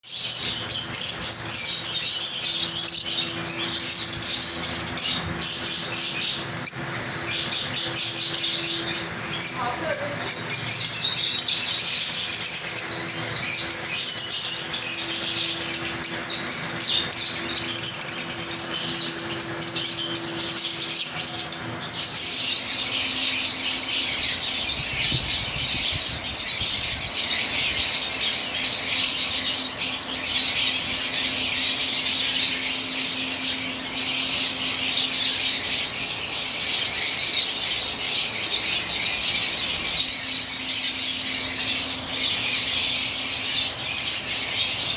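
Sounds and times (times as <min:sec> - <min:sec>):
flock of birds chattering and shrieking: 0:00.1 - 0:44.9.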